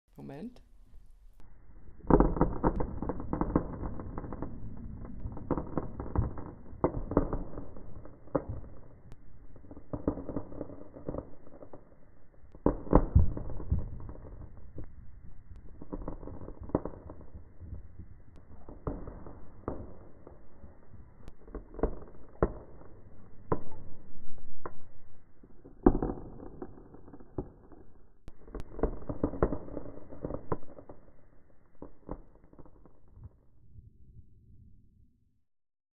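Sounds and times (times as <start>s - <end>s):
slowed seeds crunching pops: 0.8s - 33.5s.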